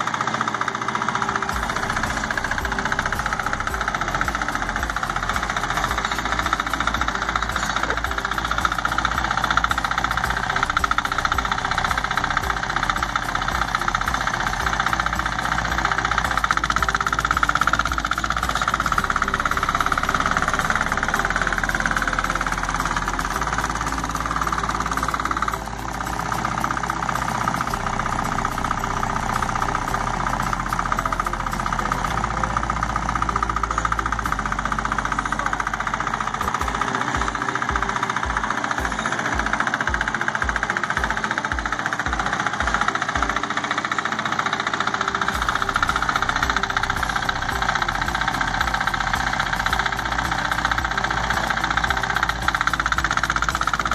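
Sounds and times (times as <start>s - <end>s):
rapid knocking beat: 0.0s - 53.9s
tractor engine running: 0.0s - 53.9s.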